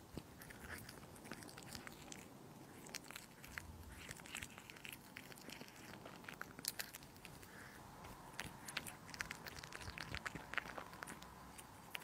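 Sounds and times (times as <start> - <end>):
cat chewing and licking: 0.0 - 12.0.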